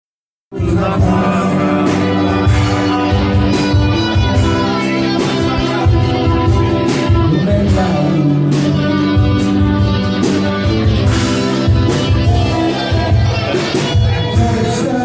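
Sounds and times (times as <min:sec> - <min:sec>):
bass notes: 0:00.5 - 0:15.0
drum hits keeping a beat: 0:00.5 - 0:15.0
guitar: 0:00.5 - 0:15.0.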